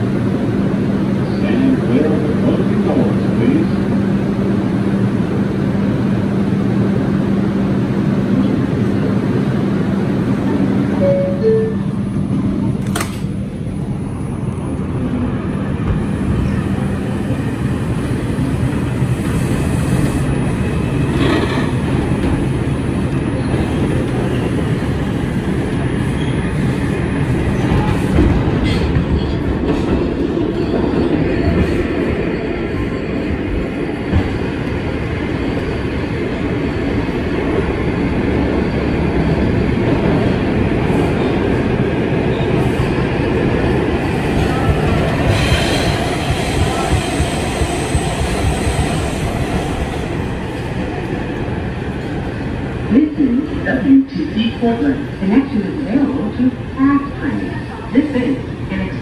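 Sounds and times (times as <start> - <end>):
rumble of wheels on rail: 0.0 - 59.0.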